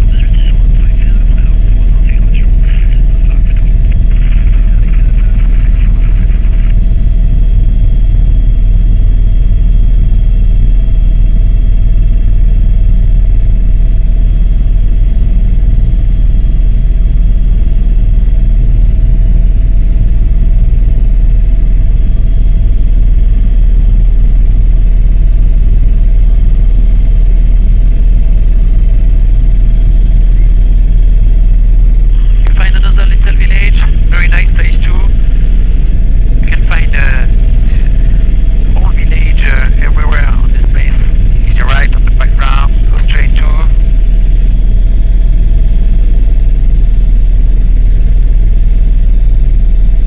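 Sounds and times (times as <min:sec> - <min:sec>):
faint high whine: 0:00.0 - 0:50.0
helicopter rotor and engine rumble: 0:00.0 - 0:50.0.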